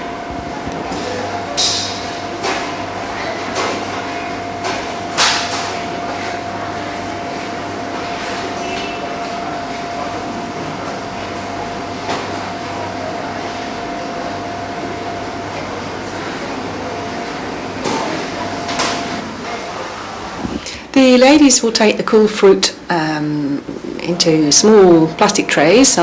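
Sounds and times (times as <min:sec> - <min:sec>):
factory machinery humming: 0:00.0 - 0:26.0.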